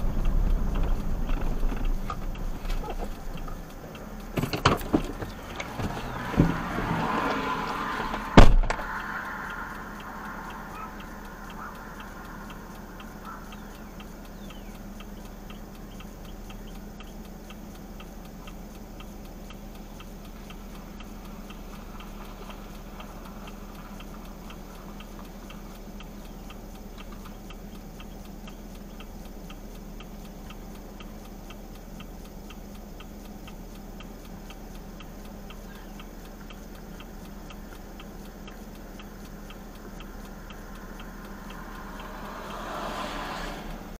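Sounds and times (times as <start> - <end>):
low engine hum: 0.0 - 43.9
turn signal flasher clicking: 0.0 - 43.9.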